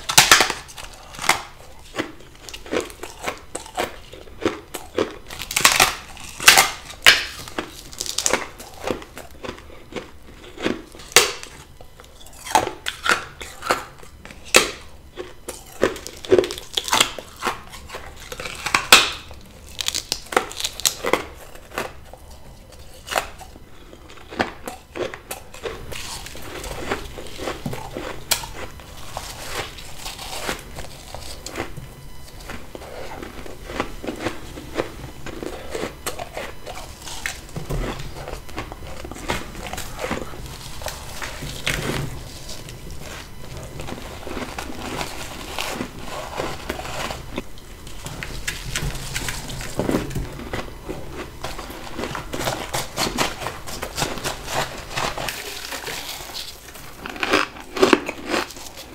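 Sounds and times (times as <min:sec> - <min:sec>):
biting and crunching frost ice: 0:00.0 - 0:58.9.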